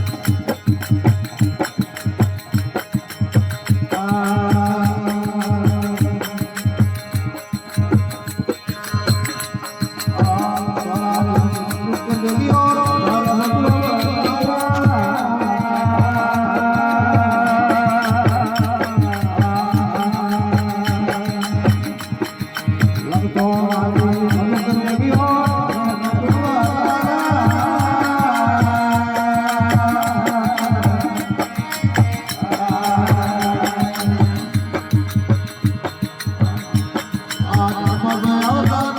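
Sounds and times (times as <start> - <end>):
devotional folk singing: 0.0 - 38.9
steady drum beat: 0.0 - 38.9.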